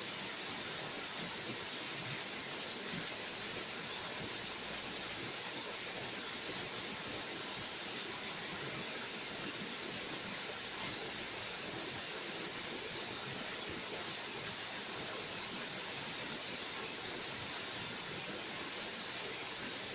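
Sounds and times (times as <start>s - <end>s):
waterfall hiss: 0.0s - 19.9s.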